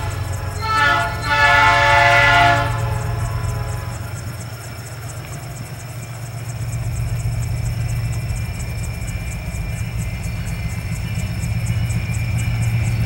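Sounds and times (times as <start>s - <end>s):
diesel locomotive engine hum: 0.0s - 13.0s.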